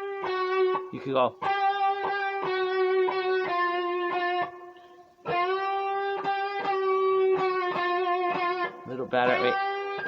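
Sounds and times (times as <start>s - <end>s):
guitar playing bent notes: 0.0s - 10.0s.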